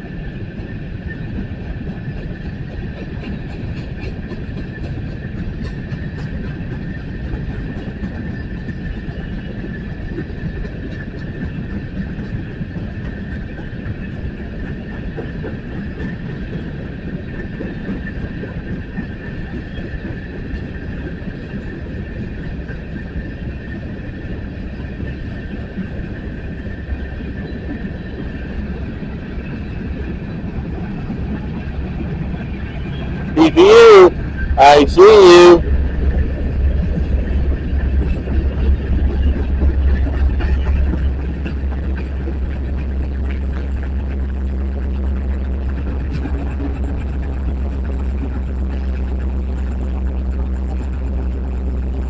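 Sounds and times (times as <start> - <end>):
freight cars rumbling on rails: 0.0 - 52.0.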